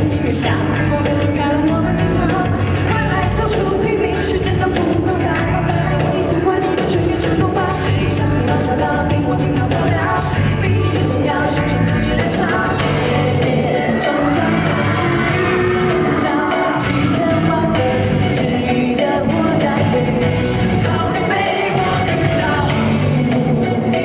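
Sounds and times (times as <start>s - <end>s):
live pop-rock band: 0.0s - 24.0s
male group singing: 0.0s - 24.0s.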